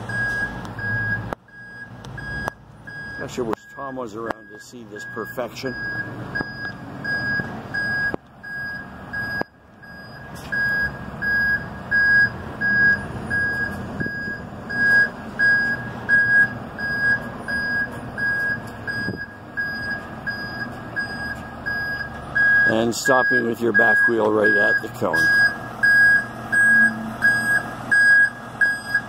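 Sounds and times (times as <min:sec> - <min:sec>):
backup alarm beeping: 0:00.1 - 0:29.0.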